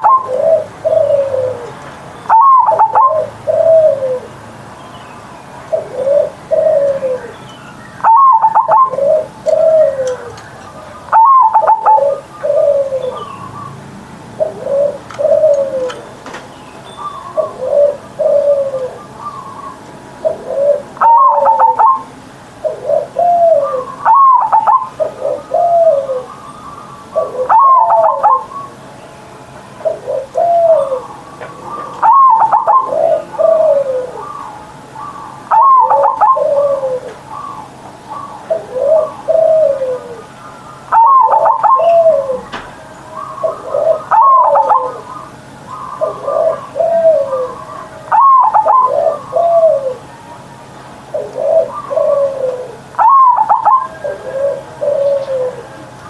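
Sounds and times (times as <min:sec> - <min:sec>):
dove cooing: 0:00.0 - 0:04.4, 0:05.7 - 0:07.4, 0:08.0 - 0:16.4, 0:17.0 - 0:56.0.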